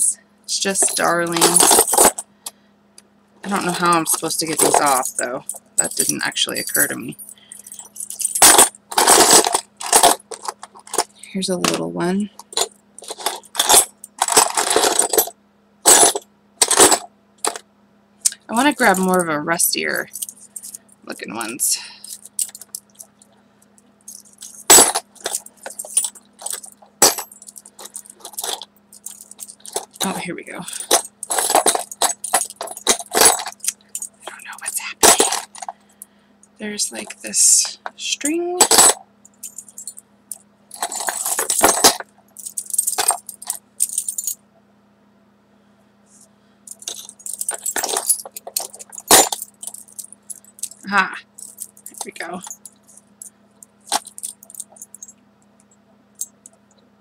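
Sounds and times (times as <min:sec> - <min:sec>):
metal keys clinking: 0:00.6 - 0:02.3, 0:03.4 - 0:11.2, 0:12.3 - 0:17.6, 0:18.6 - 0:23.3, 0:24.0 - 0:35.8, 0:38.6 - 0:44.4, 0:46.7 - 0:55.2.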